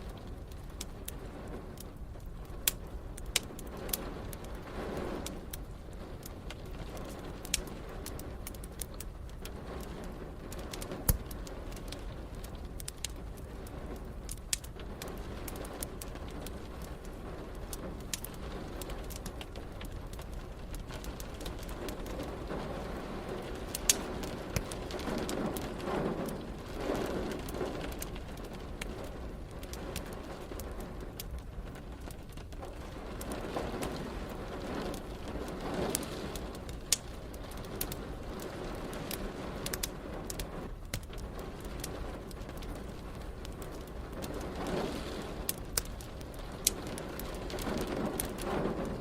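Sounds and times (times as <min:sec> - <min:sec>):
fireplace crackling and popping: 0:00.0 - 0:49.0
rain hiss: 0:00.0 - 0:49.0.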